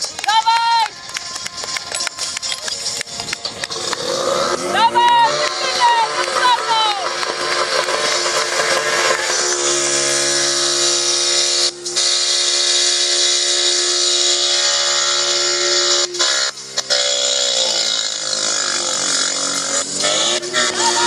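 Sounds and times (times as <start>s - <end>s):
small petrol engine running: 1.4s - 21.0s.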